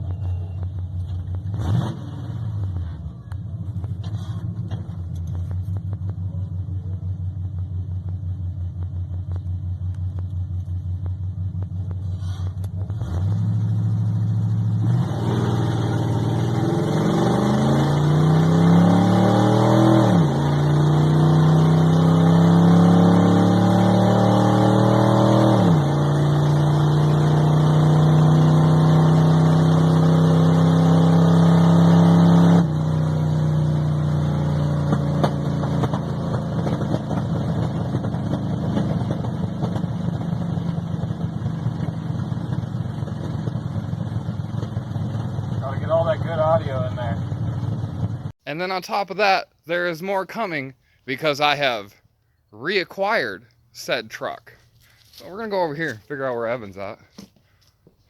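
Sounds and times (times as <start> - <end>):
truck engine idling and revving: 0.0 - 48.4, 49.8 - 58.0.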